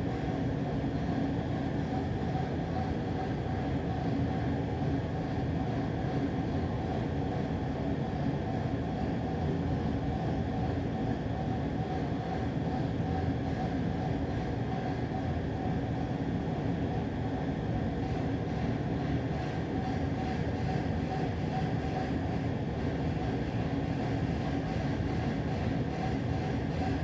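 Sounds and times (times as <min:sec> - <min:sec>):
faint hum: 0:00.0 - 0:27.0.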